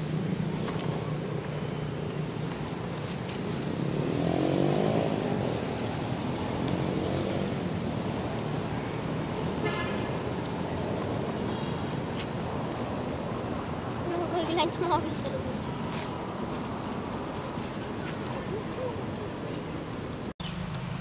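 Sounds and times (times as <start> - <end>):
outdoor traffic noise: 0.0 - 21.0.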